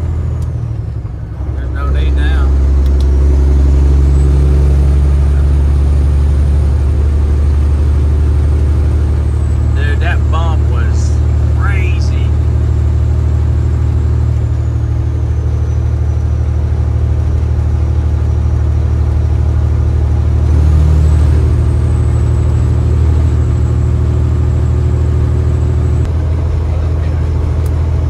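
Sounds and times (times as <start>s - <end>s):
truck engine drone: 0.0s - 28.0s.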